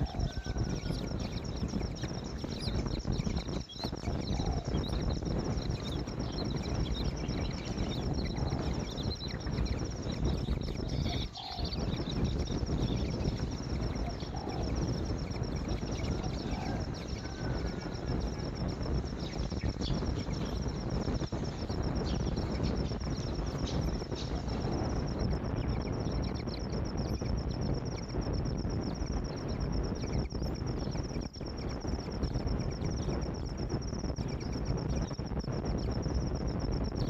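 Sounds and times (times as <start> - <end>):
faint chirps: 0.0 - 37.0
steady low rumble: 0.0 - 37.0.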